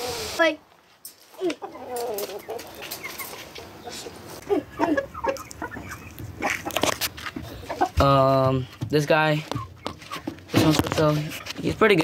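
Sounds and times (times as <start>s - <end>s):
chickens clucking: 1.3s - 12.0s.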